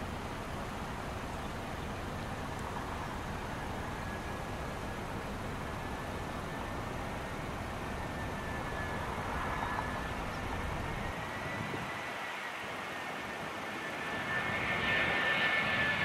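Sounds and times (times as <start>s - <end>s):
high engine whine: 0.0s - 16.0s
jet engine rush: 0.0s - 16.0s.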